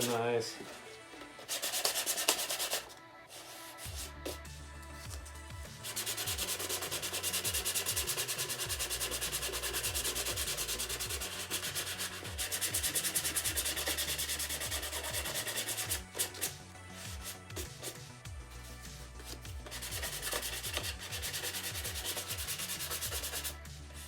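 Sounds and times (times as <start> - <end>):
sandpaper scraping strokes: 0.0 - 4.5, 5.3 - 24.0.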